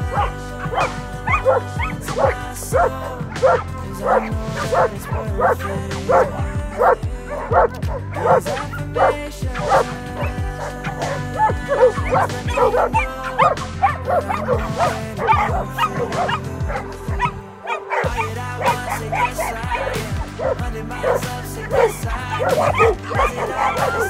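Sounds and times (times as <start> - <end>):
background music with bass line: 0.0 - 24.0
dogs barking excitedly: 0.0 - 24.0.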